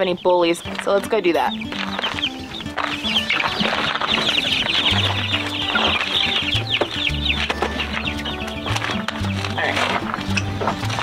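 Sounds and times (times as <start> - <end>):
background music with bass line: 0.0 - 11.0
chicks peeping: 0.0 - 11.0.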